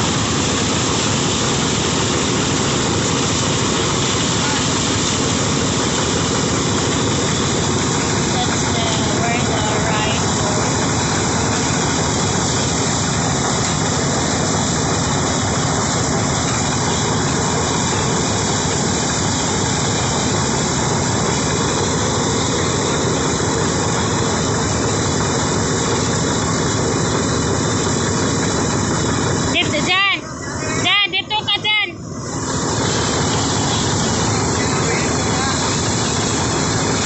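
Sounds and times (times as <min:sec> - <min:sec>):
harvesting machine running: 0:00.0 - 0:37.0.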